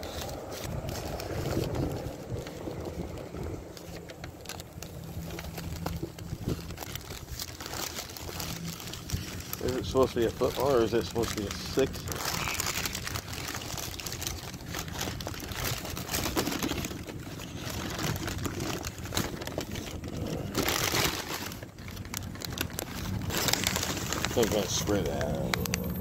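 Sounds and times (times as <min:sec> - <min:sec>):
paper wrapper crinkling: 0:00.0 - 0:26.0.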